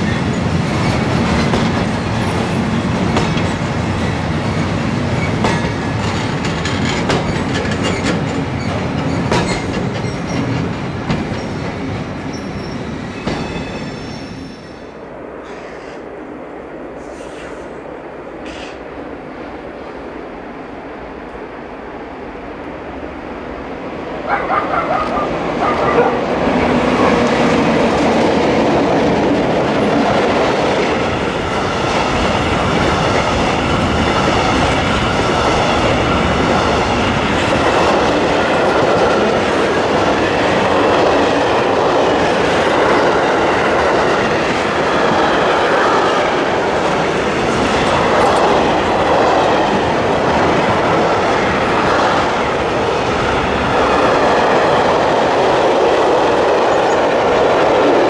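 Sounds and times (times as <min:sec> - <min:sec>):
electric locomotive passing: 0:00.0 - 0:58.0.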